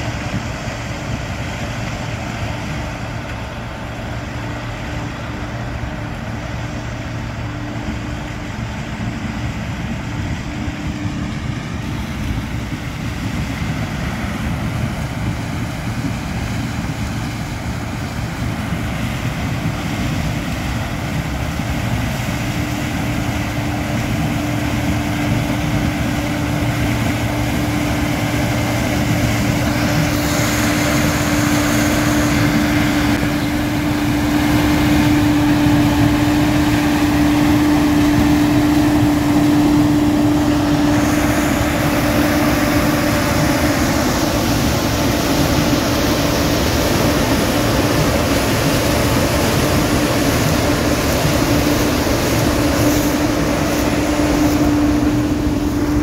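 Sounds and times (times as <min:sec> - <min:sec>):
combine harvester droning: 0:00.0 - 0:56.0
steady machine whine: 0:00.0 - 0:56.0.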